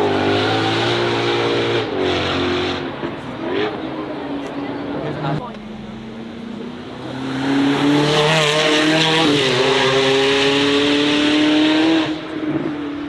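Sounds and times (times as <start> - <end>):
car engine revving high: 0.0 - 4.1, 5.2 - 13.0.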